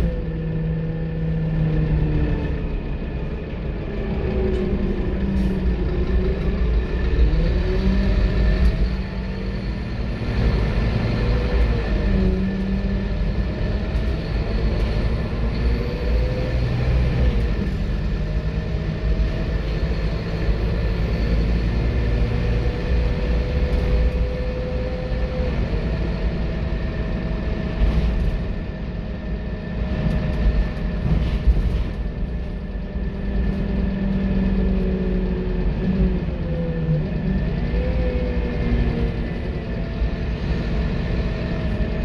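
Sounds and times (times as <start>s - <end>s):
bus diesel engine pulling: 0.0s - 42.0s.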